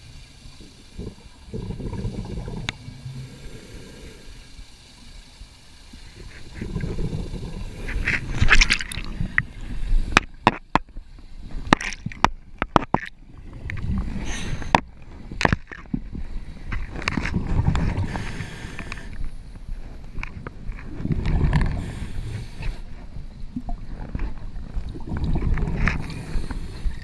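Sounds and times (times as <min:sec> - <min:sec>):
underwater gurgling bubbles: 0:00.0 - 0:27.0.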